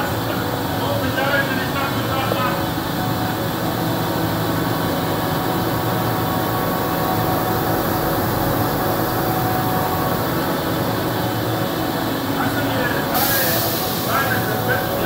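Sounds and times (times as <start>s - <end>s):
printing press running: 0.0s - 15.0s.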